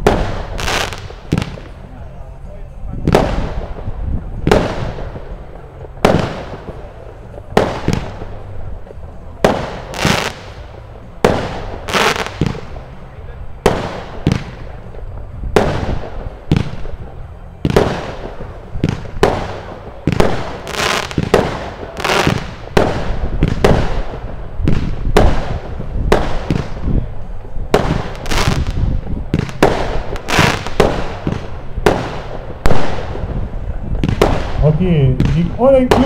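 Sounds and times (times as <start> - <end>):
fireworks bangs with hiss: 0.0 - 36.0.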